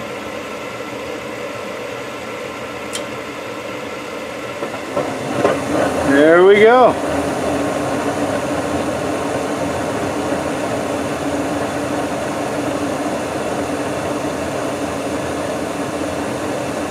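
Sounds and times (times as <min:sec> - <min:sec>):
gas furnace burners whooshing: 0:00.0 - 0:16.9
steady low hum: 0:00.0 - 0:16.9.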